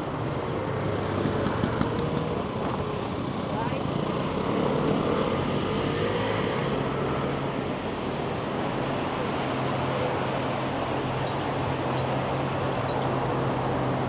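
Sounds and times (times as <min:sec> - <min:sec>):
traffic noise: 0:00.0 - 0:14.0
vehicles passing: 0:00.0 - 0:14.0.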